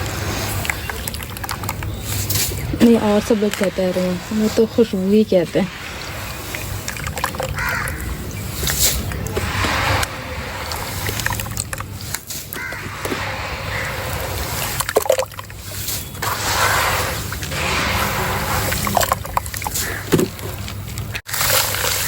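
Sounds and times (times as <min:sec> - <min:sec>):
water pouring and splashing: 0:00.0 - 0:22.0.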